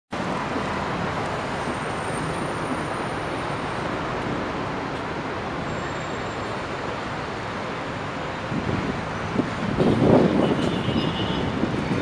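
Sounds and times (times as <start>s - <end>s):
busy city traffic: 0.1s - 12.0s.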